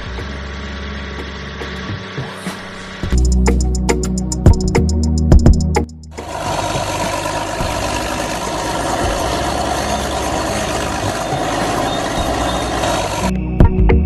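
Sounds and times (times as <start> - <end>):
vehicle engine low throb: 0.0 - 13.8.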